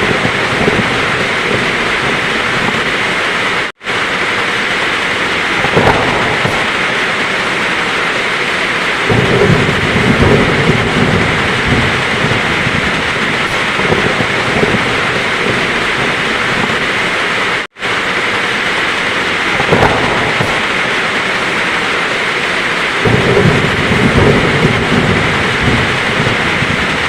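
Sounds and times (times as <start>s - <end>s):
heavy rain falling: 0.0s - 27.0s
low roll of thunder: 0.0s - 27.0s.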